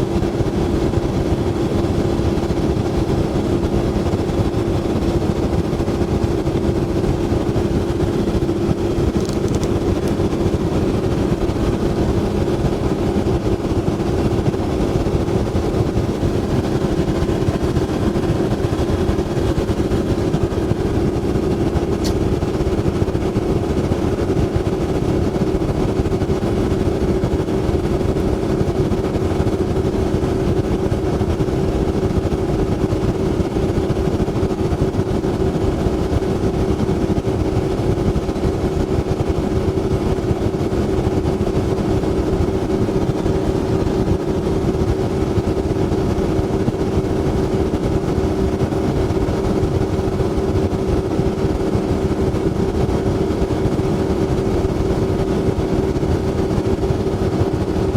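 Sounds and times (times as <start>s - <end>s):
boat motor droning: 0.0s - 57.9s.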